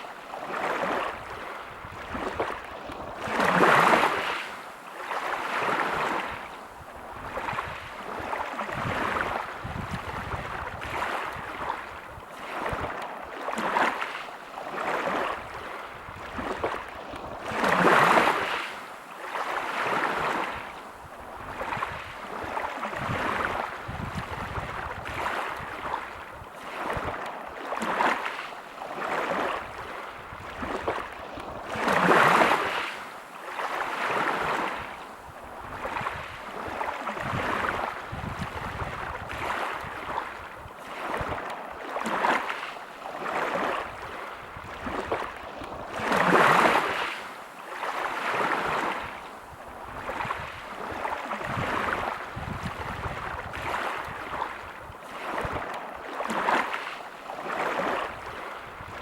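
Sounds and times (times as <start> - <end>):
small waves on a pebble beach: 0.0 - 59.0.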